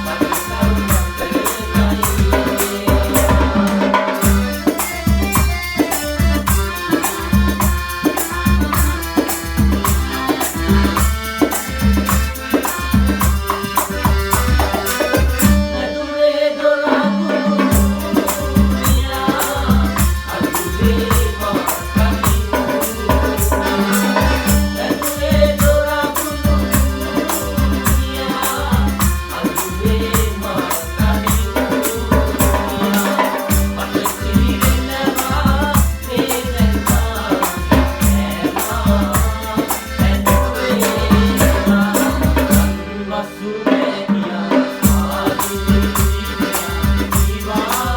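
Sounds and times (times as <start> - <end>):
rattling percussion: 0.0 - 15.7, 17.5 - 42.9, 44.7 - 47.9
calypso band music: 0.0 - 47.9.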